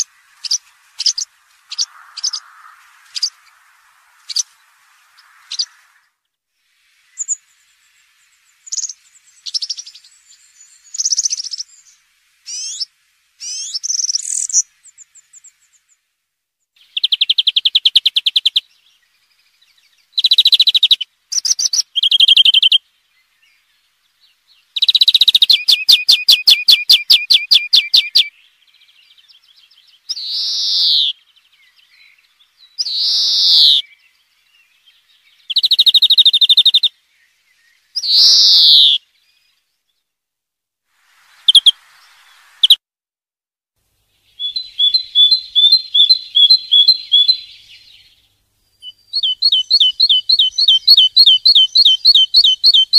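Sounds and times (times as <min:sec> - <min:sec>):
songbird singing with trills: 0:00.0 - 0:02.5, 0:07.1 - 0:16.0, 0:16.8 - 0:40.0, 0:41.4 - 0:42.8, 0:44.3 - 0:52.9.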